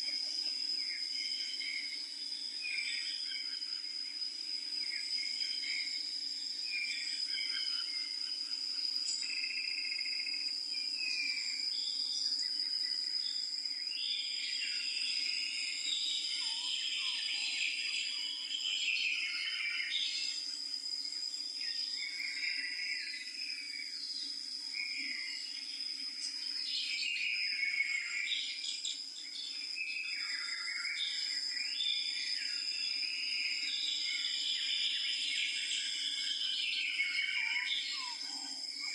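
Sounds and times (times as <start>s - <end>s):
high-pitched insect trill: 0.0s - 38.9s.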